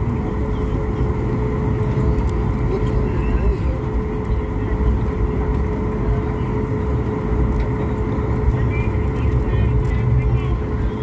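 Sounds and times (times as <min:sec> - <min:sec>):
jet engine rumble: 0:00.0 - 0:11.0
steady engine whine: 0:00.0 - 0:11.0.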